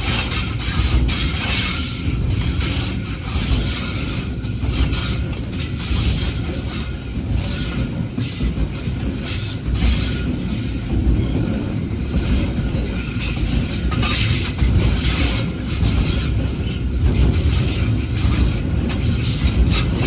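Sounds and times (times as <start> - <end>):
freight train wagons rumbling: 0.0 - 20.0
wheels hissing on rails: 0.0 - 20.0.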